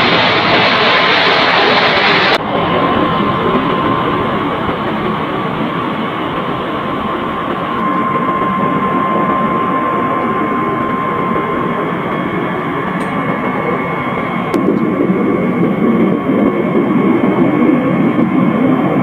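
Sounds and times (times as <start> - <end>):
jet engines roaring at takeoff: 0.0 - 19.0.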